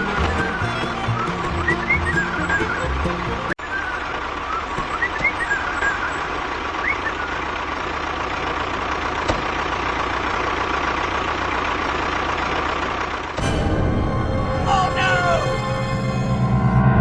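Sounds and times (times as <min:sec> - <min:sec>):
vehicle engine idling: 0:00.0 - 0:16.7.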